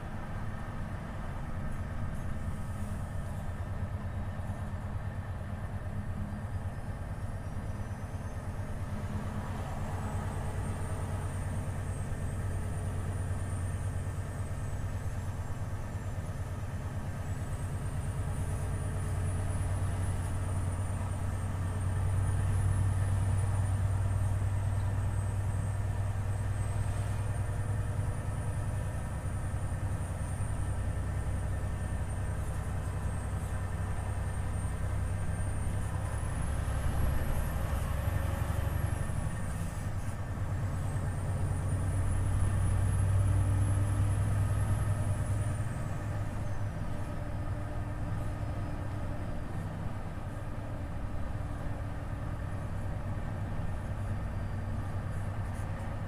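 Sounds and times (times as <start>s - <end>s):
diesel truck engine droning: 0.0s - 56.0s.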